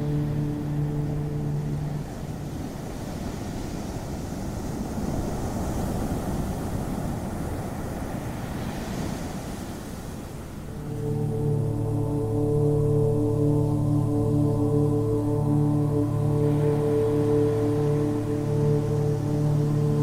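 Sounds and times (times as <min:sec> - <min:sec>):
ocean waves washing: 0:00.0 - 0:20.0.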